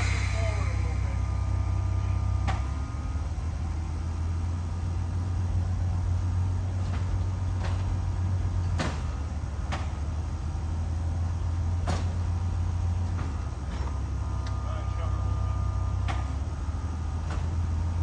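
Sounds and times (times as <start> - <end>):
train moving with low drone: 0.0 - 18.0.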